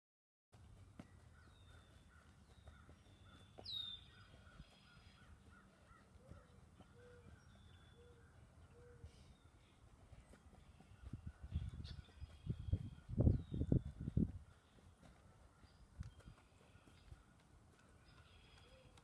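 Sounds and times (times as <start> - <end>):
birds calling: 0.6 - 19.0.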